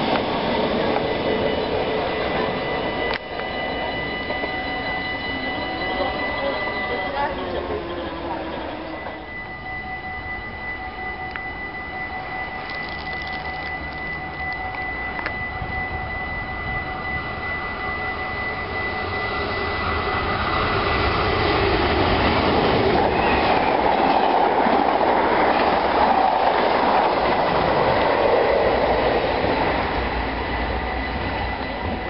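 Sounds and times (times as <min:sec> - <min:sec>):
train passing on rails: 0:00.0 - 0:32.0.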